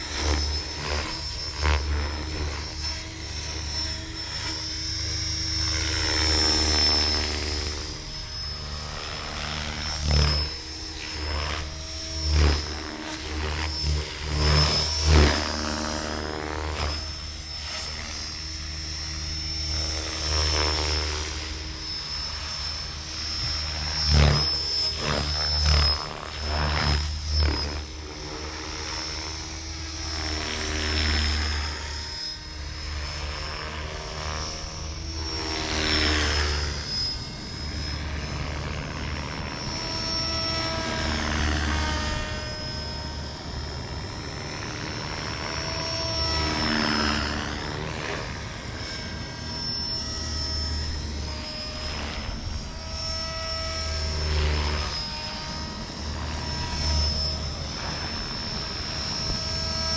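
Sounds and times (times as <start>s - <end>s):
high motor whine: 0.0s - 59.9s.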